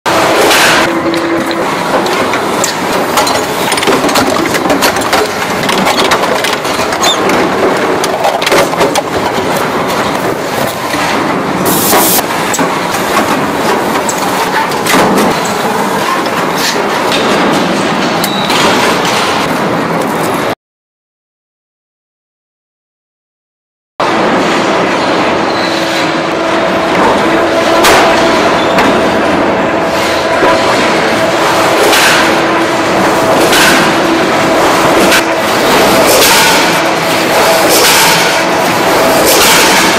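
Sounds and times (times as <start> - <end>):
factory machinery clattering: 0.1 - 20.6, 24.0 - 39.9.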